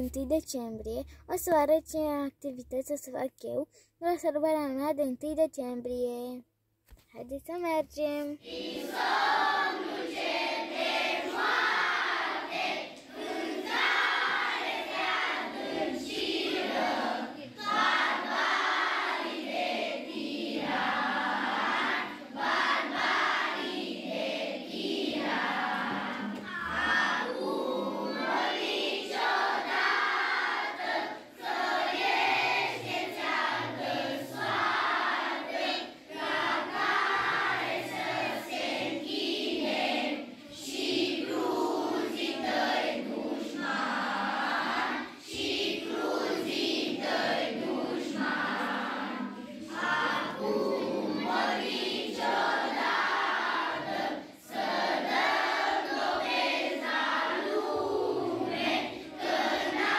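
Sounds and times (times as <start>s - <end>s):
children's choir singing: 8.4s - 59.9s.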